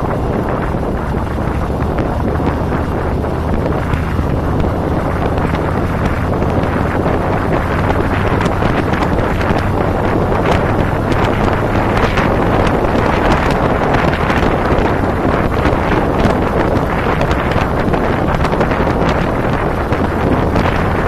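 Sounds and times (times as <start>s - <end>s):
motorcycle engine running: 0.0s - 21.0s
wind buffeting microphone: 0.0s - 21.0s.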